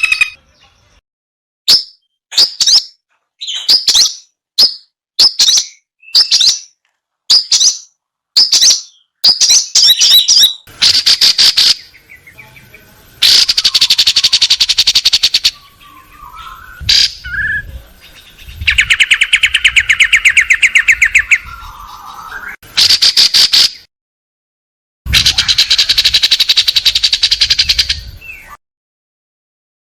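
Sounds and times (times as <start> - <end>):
shrike chirps and trills: 0.0 - 0.9, 1.7 - 23.9, 25.1 - 28.6.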